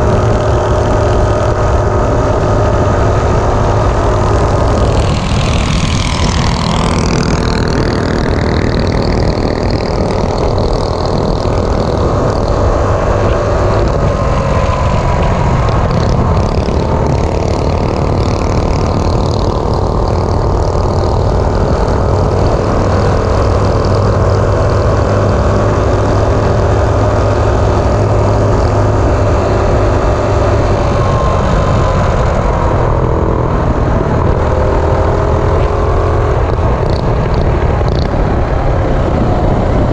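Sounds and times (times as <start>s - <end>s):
minibike engine running: 0.0s - 39.9s
wind rushing over microphone: 0.0s - 39.9s.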